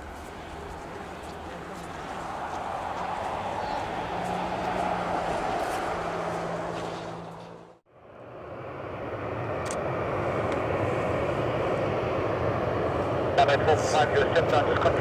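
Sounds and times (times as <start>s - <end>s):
jet engine drone: 0.0s - 15.0s.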